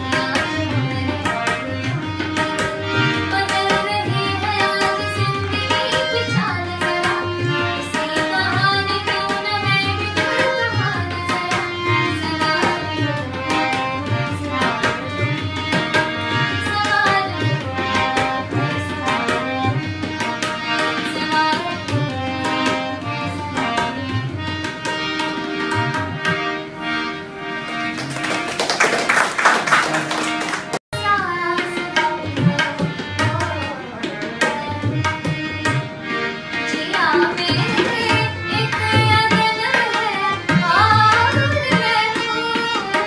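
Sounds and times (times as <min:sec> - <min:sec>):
tabla playing a rhythm: 0:00.0 - 0:43.0.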